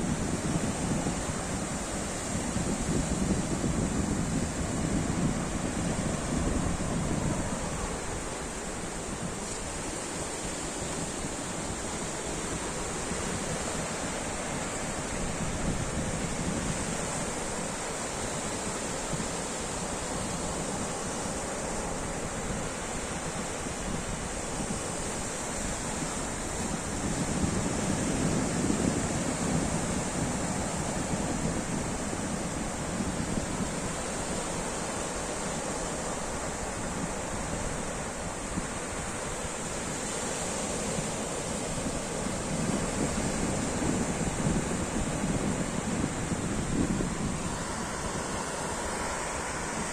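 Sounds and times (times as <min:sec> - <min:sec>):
ocean waves breaking: 0:00.0 - 0:49.9.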